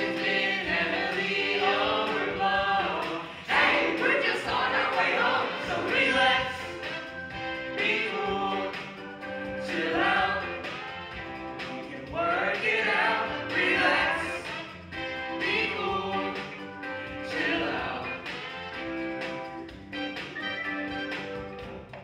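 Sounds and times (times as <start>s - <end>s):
group singing musical theatre song: 0.0s - 18.6s
instrumental accompaniment: 0.0s - 22.0s.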